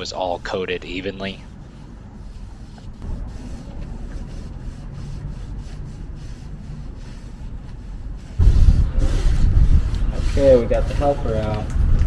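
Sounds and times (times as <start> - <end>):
brush rubbing over wooden boards: 0.0 - 11.7
steady low rumble: 0.0 - 12.0.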